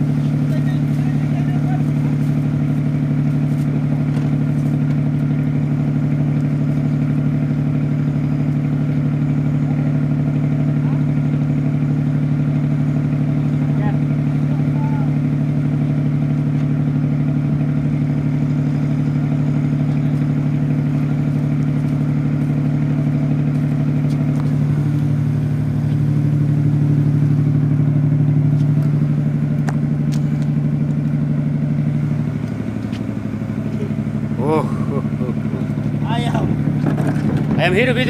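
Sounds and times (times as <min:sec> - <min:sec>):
ship engine drone: 0:00.0 - 0:38.0.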